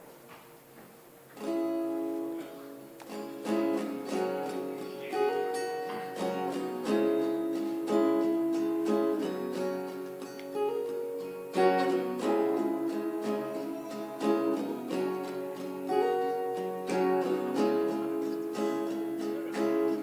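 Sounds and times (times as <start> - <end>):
acoustic guitar strumming chords: 1.2 - 20.0.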